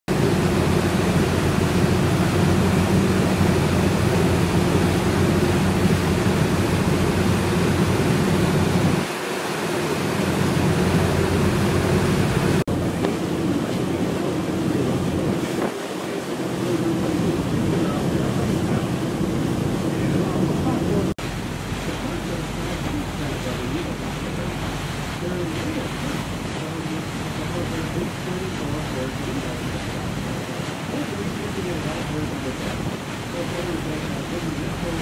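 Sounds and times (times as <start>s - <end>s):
churning wake water: 0.1s - 35.0s
motorboat engine drone: 0.1s - 35.0s
wind on microphone: 0.1s - 35.0s.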